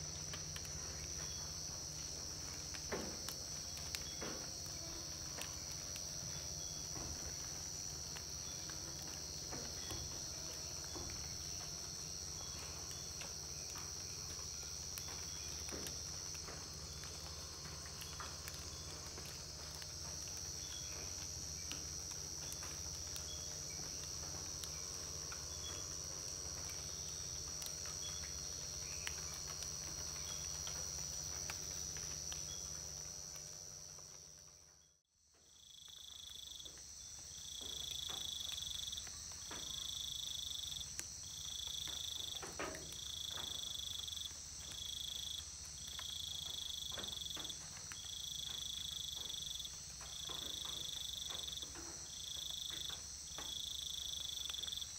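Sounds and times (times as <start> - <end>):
insect chorus drone: 0.0 - 54.9
pulsing insect call: 0.0 - 54.9.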